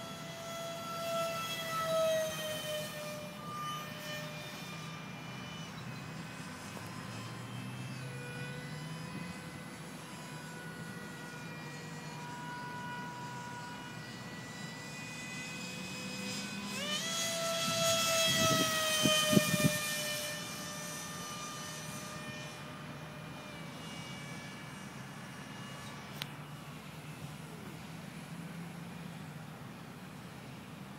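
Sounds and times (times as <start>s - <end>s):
electric ducted fan whining: 0.0s - 30.9s.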